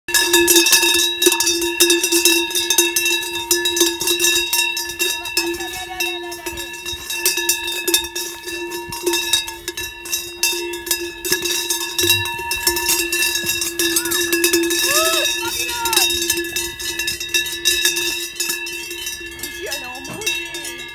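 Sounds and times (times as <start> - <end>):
cowbells clanging: 0.1 - 20.9.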